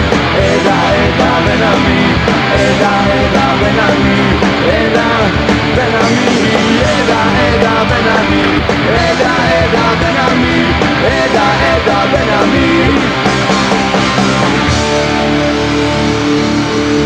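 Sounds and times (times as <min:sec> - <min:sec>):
punk rock band playing live: 0:00.0 - 0:17.0.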